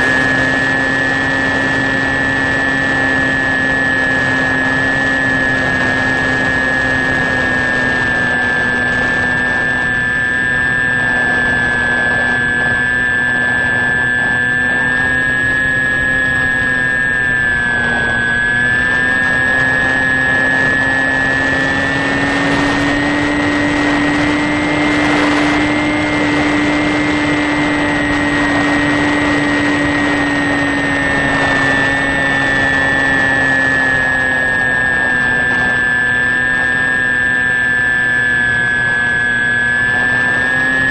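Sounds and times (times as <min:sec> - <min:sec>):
model plane motor whine: 0:00.0 - 0:40.9.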